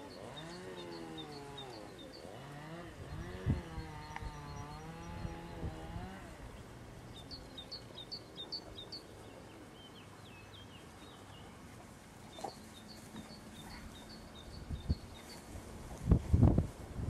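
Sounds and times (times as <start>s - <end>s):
songbird singing: 0.0s - 16.6s.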